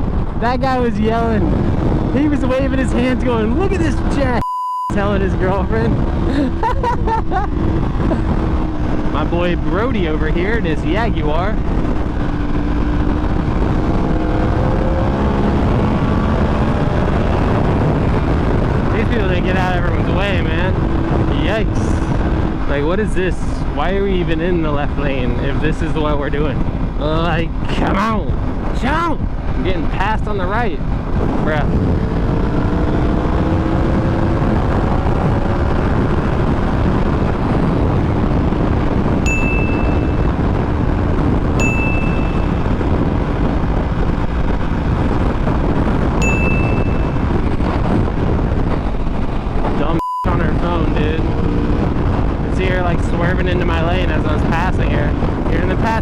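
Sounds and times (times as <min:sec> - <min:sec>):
wind and road noise: 0:00.0 - 0:56.0
motorcycle engine at speed: 0:05.0 - 0:49.8, 0:50.4 - 0:56.0.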